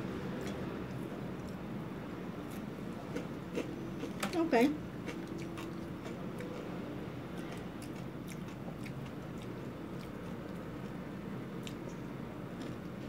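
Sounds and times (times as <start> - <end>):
chewing crispy food: 0.3 - 1.7, 2.4 - 13.0.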